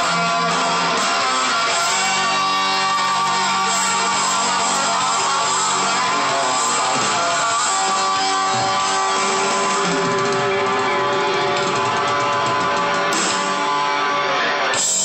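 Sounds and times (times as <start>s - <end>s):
hard rock electric guitar: 0.0s - 15.0s.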